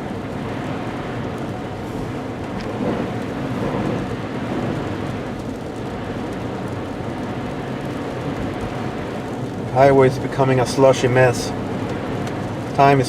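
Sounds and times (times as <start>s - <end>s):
low road drone: 0.0s - 13.0s.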